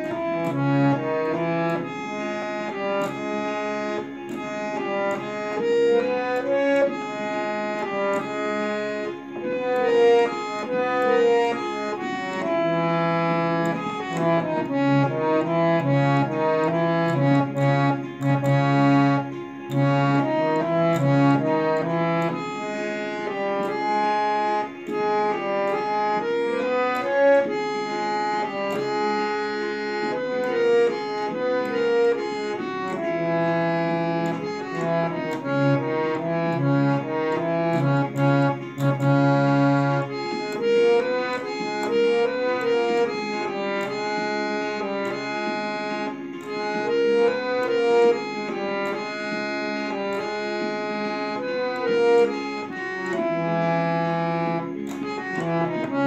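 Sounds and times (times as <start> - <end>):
harmonium playing a tune: 0.0 - 56.0.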